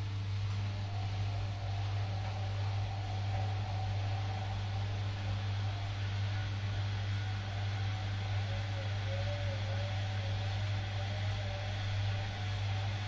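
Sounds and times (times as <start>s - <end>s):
washing machine motor hum: 0.0s - 13.0s
wavering thin whine: 0.0s - 13.0s.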